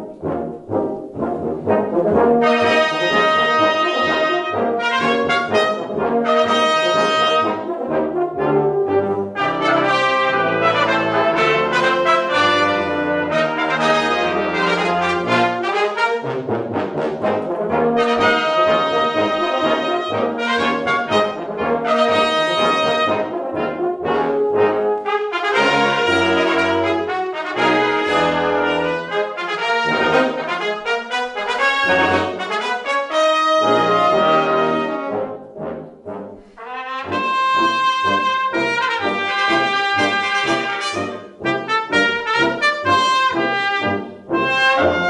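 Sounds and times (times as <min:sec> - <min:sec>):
brass ensemble playing: 0:00.0 - 0:45.0.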